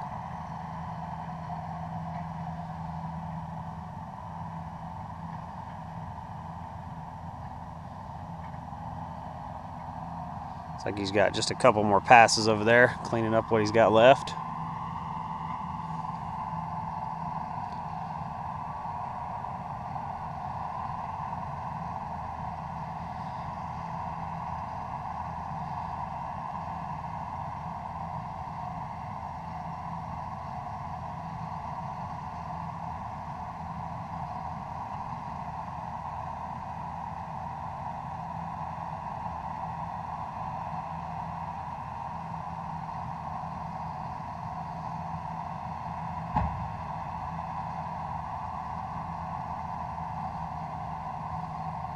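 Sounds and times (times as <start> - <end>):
vehicle engine droning: 0.0 - 51.9.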